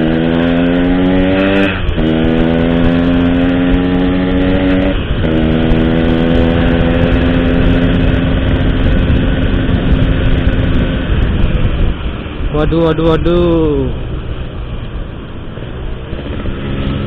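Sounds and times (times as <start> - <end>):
motorcycle exhaust cruising: 0.0 - 17.0
wind and road rumble: 0.0 - 17.0.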